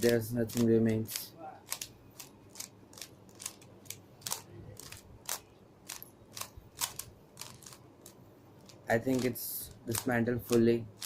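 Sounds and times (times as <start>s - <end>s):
plastic cube pieces clicking: 0.0s - 11.0s.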